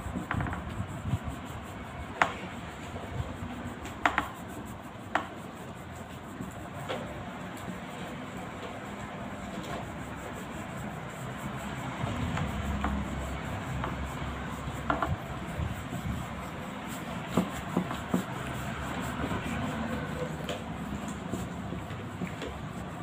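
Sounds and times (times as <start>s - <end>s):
oil pastel scribbling on paper: 0.0s - 23.0s.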